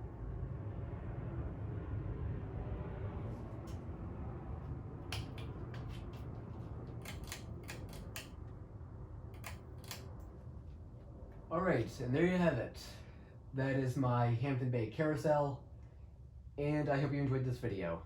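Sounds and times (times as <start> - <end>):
ceiling fan humming: 0.0 - 18.0.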